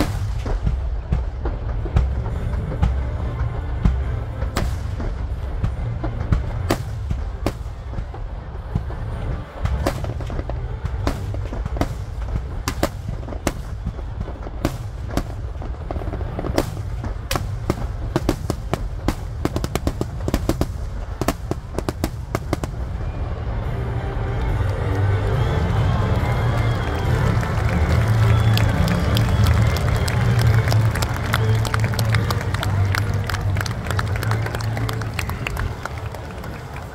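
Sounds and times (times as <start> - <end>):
fireworks launching and bursting: 0.0 - 36.9.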